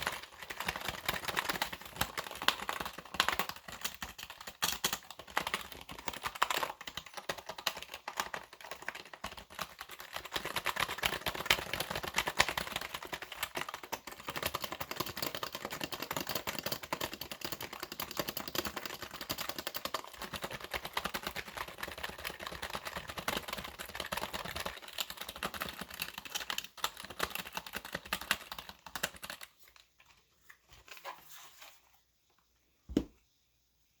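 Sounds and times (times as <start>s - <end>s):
fast typing on keyboard: 0.0s - 29.9s.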